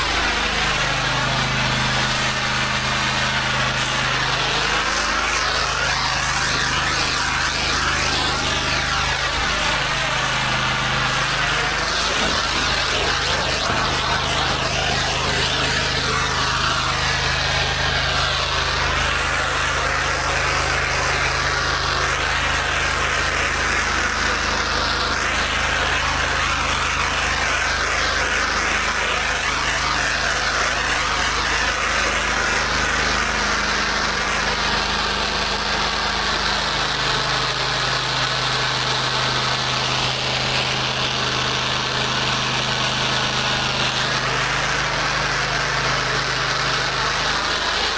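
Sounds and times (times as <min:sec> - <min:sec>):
high-pressure water spray hissing: 0:00.0 - 0:47.9
pressure washer engine running: 0:00.0 - 0:47.9.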